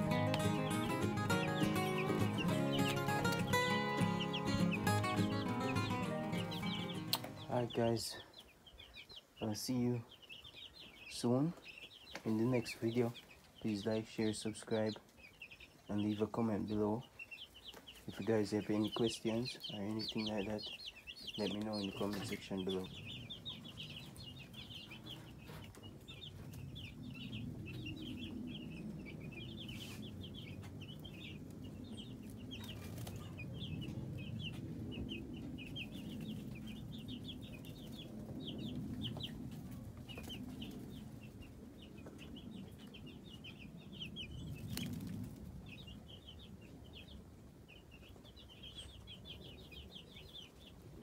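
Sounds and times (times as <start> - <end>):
chicks peeping: 0.0 - 51.0.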